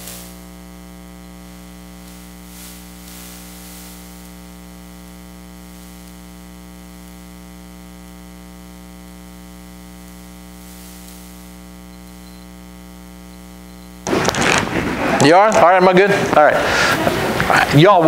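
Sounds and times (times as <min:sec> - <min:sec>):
electrical hum with overtones: 0:00.0 - 0:18.0
sound system hiss: 0:00.0 - 0:18.0.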